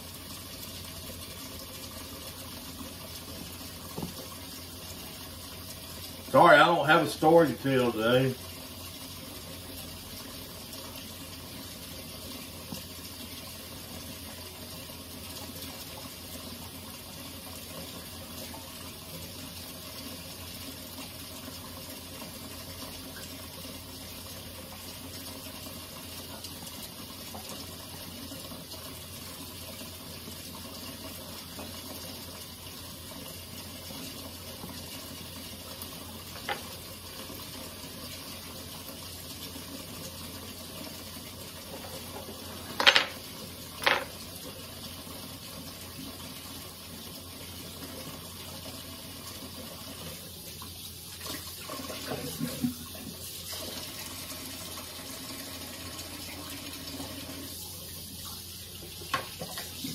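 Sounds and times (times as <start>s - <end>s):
faucet running into sink: 0.0s - 59.9s.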